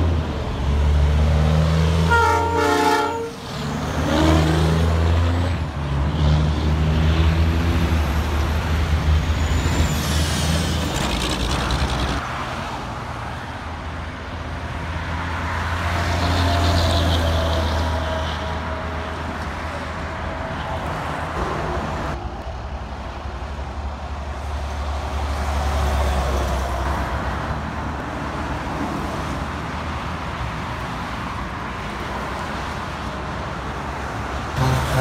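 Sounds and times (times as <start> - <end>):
cars and trucks driving by: 0.0 - 35.0.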